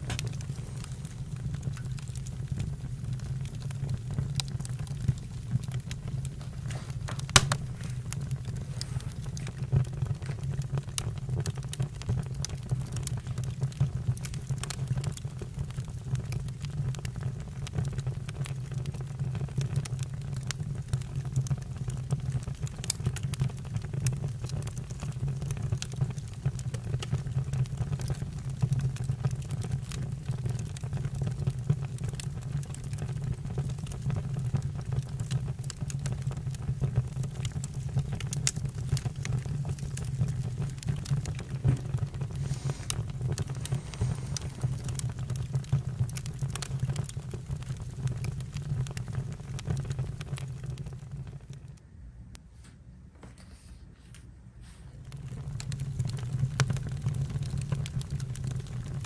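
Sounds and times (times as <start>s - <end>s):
campfire pops and snaps: 0.0s - 51.8s, 55.0s - 59.0s
fire low rumble: 0.0s - 51.8s, 54.6s - 59.0s.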